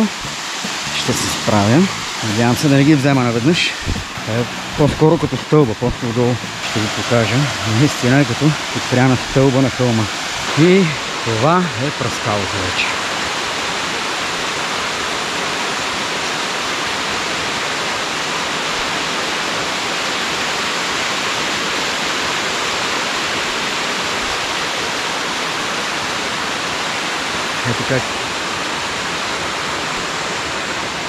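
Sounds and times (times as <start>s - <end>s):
waterfall rushing onto stones: 0.0s - 31.0s.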